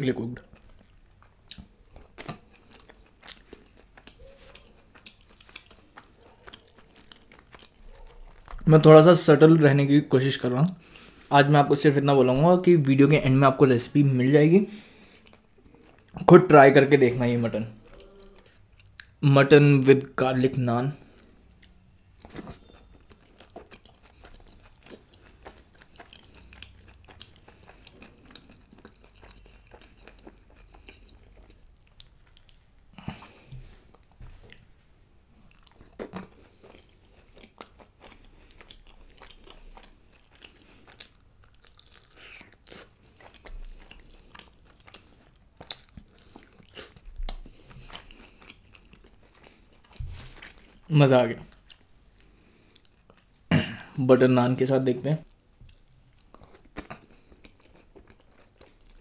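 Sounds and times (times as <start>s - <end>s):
person chewing food: 0.2s - 8.8s, 10.7s - 11.4s, 14.7s - 16.3s, 17.2s - 19.2s, 20.9s - 54.0s, 55.1s - 59.0s.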